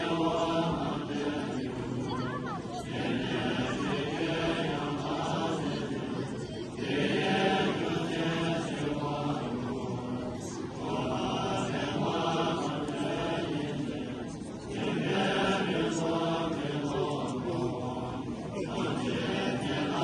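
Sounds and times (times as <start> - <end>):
voices chanting together: 0.0 - 20.0.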